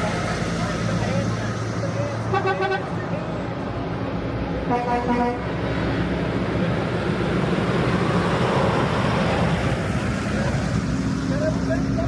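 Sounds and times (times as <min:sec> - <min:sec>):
heavy truck driving past: 0:00.0 - 0:12.0.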